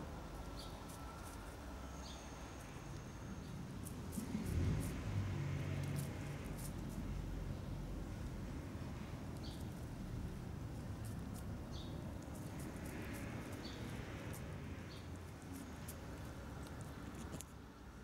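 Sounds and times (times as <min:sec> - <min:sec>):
low outdoor rumble: 0:02.5 - 0:18.0.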